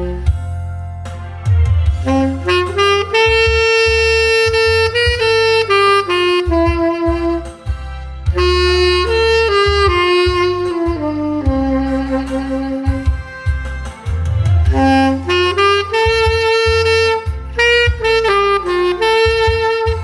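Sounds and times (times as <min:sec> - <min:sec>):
saxophone slow melody: 0:00.0 - 0:00.6, 0:01.8 - 0:20.0
low bass accompaniment: 0:00.0 - 0:20.0.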